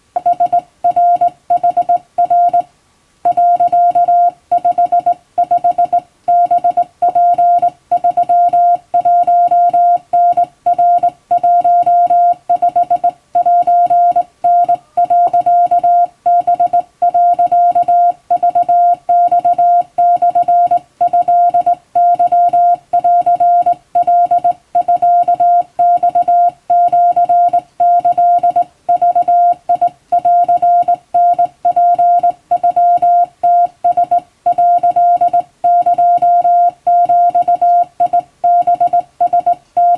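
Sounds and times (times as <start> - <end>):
morse code beeps: 0.2 - 2.7, 3.3 - 39.9.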